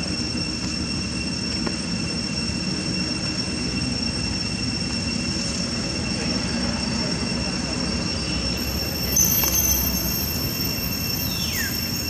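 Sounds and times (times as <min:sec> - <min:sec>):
thin high whine: 0:00.0 - 0:12.0.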